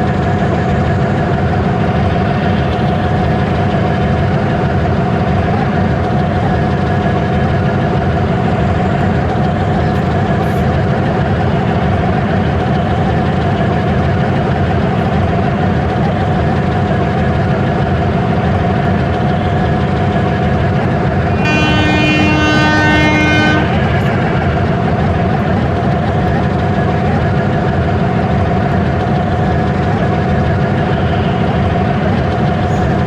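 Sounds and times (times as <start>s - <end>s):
train engine droning: 0.0s - 33.0s.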